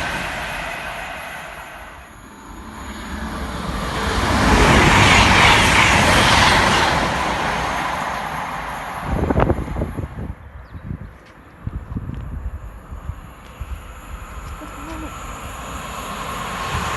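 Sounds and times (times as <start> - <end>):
train passing at speed: 0.0 - 16.9
wind buffeting microphone: 3.2 - 16.9.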